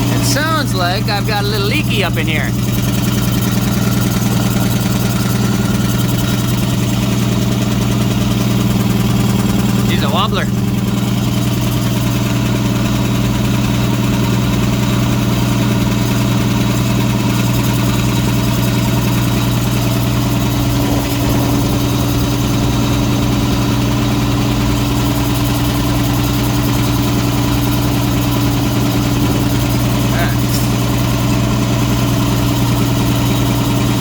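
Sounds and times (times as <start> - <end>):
air compressor running: 0.0 - 34.0.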